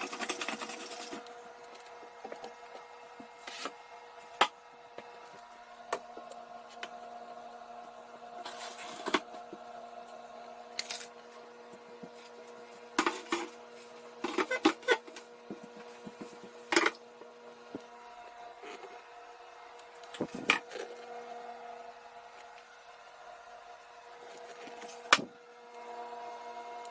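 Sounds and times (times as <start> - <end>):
low electrical hum: 0.0 - 26.9.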